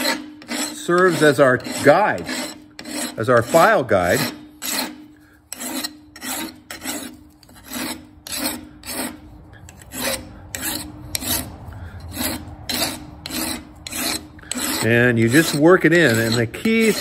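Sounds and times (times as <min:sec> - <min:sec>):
file rasping on steel blade: 0:00.0 - 0:17.0.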